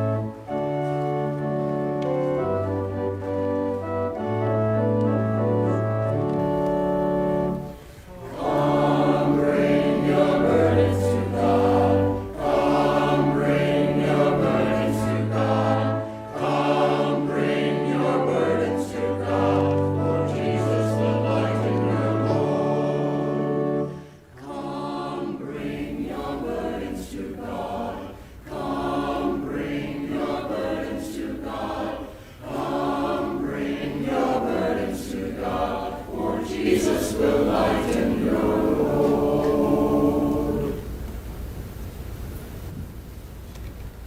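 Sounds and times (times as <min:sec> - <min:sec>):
choir singing a hymn: 0:00.0 - 0:41.1.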